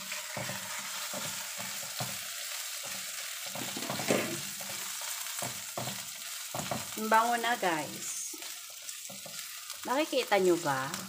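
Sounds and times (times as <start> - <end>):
spatula scraping wok: 0.0 - 10.3
food sizzling in oil: 0.0 - 11.0.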